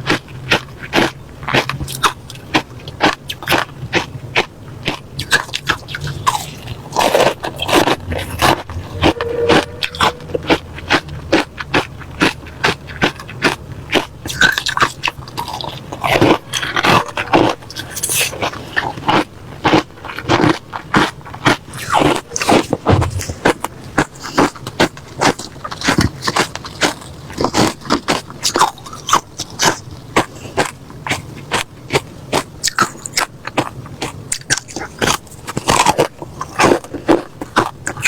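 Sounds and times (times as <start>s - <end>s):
crushed ice crunching while chewed: 0.0s - 38.0s.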